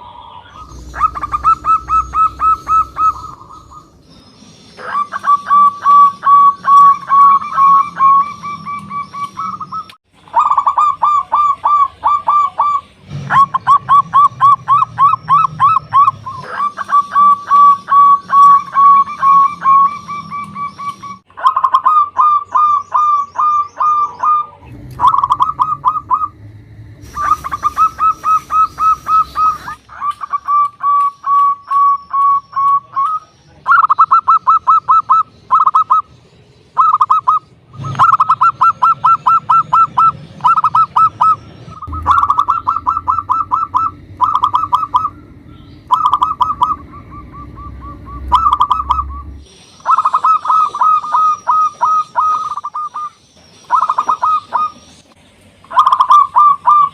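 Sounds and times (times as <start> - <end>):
dove cooing: 0.0 - 4.0, 4.7 - 36.1, 36.8 - 55.0, 55.6 - 56.9.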